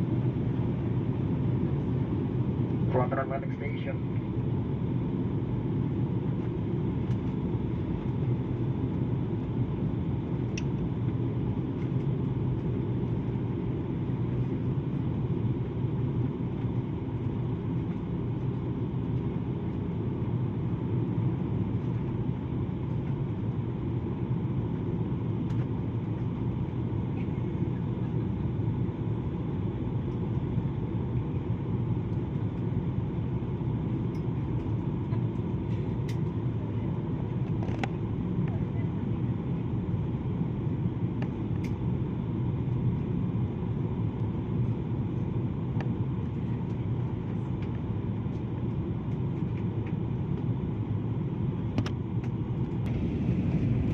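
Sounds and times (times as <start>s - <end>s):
airliner cabin drone: 0.0s - 53.9s
low hum: 0.0s - 53.9s.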